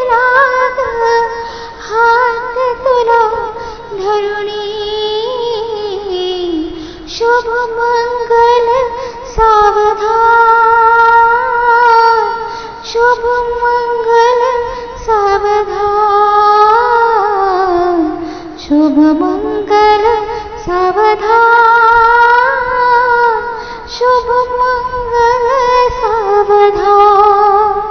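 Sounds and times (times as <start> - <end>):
woman singing slow ornamented melody: 0.0 - 27.9.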